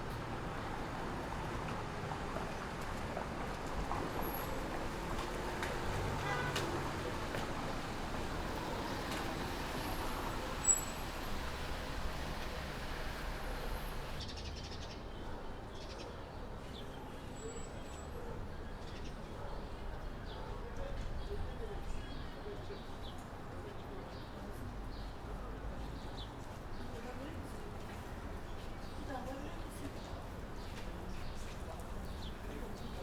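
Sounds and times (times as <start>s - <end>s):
outdoor city ambience: 0.0s - 33.0s.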